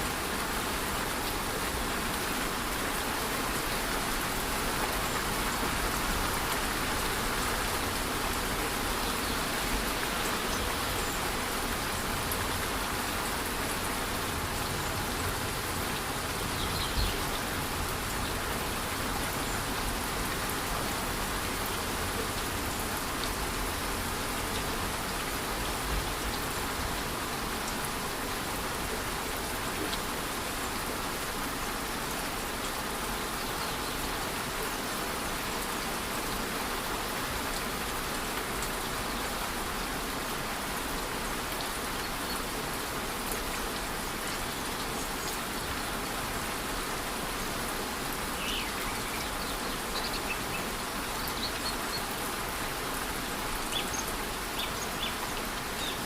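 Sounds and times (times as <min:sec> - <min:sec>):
rushing waterfall and rain: 0:00.0 - 0:56.0.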